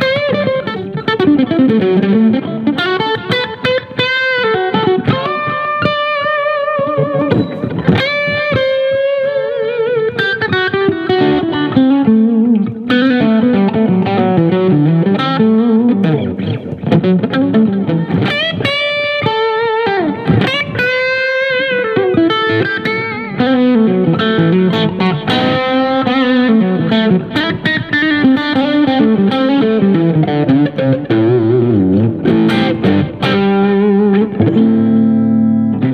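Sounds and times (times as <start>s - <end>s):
electric guitar blues-rock lead: 0.0s - 35.9s.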